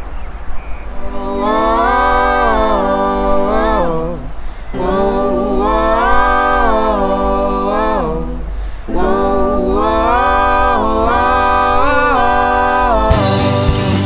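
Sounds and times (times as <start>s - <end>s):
a cappella voices in harmony: 0.8s - 14.0s.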